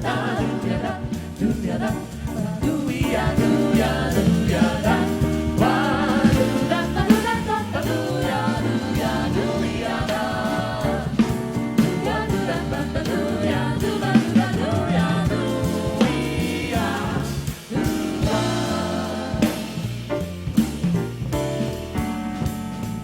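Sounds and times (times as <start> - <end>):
vocal group singing in harmony: 0.0 - 20.1
jazz band with bass and drums: 0.0 - 23.0.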